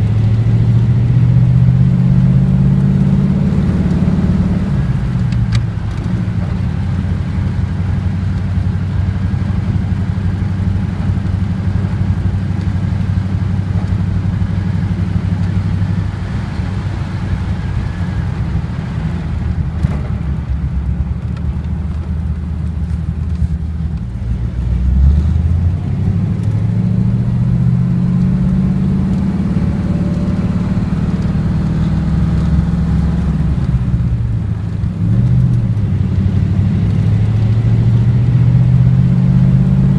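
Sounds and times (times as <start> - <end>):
car engine running while driving: 0.0 - 39.9.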